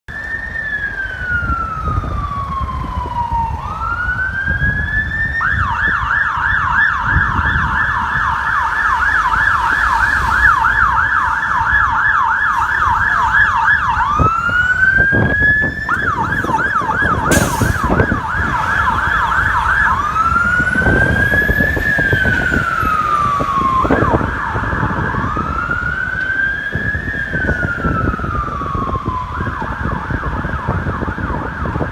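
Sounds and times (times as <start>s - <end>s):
fire truck siren wailing and yelping: 0.1s - 31.9s
truck and road rumble: 0.1s - 31.9s.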